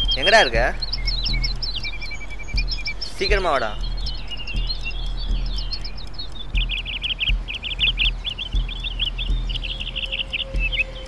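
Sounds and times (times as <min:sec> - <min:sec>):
small birds chirping: 0:00.0 - 0:11.0
soft low thumps: 0:00.0 - 0:11.0.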